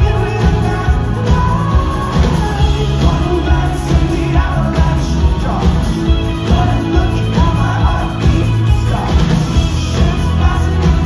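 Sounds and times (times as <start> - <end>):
guitars: 0.0 - 11.0
keyboards: 0.0 - 11.0
lead singer: 0.0 - 11.0
steady drum beat: 0.0 - 11.0.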